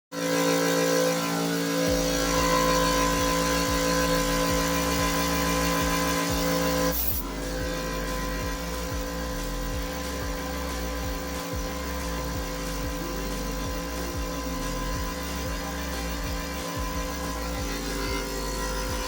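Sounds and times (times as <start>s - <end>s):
air compressor motor hum: 0.2s - 19.0s
low pulse: 1.7s - 19.0s.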